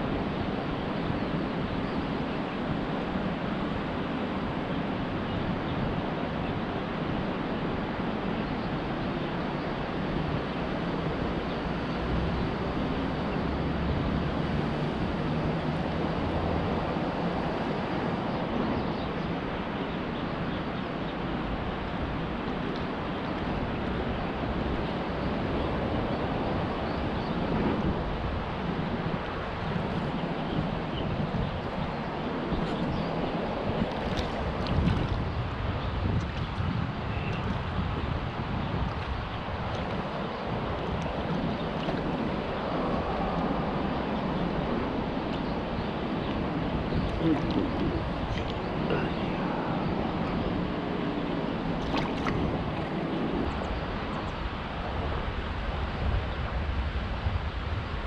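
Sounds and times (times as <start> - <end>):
rushing outdoor background noise: 0.0 - 58.0.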